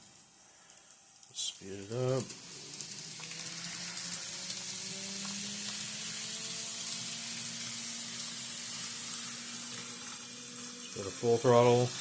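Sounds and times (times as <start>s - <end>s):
model train motor whining: 0.0s - 12.0s
steady high hiss: 0.0s - 12.0s.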